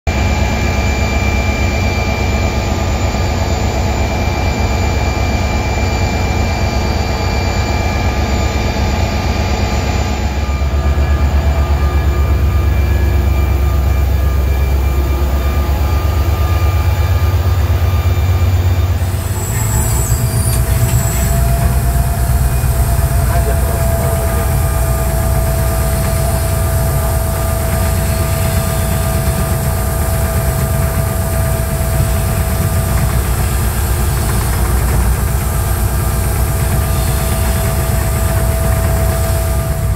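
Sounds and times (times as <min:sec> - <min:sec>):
diesel locomotive engine drone: 0:00.0 - 0:39.9
thin high whine: 0:00.2 - 0:39.9.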